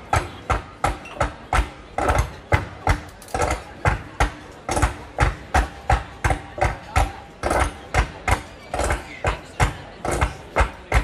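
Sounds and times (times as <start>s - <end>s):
hammers beating barrel hoops: 0.0s - 11.0s.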